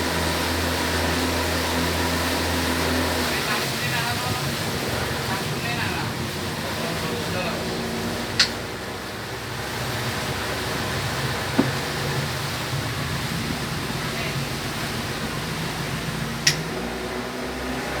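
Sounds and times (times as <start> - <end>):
boat motor humming: 0.0 - 18.0
rushing water and wind: 0.0 - 18.0.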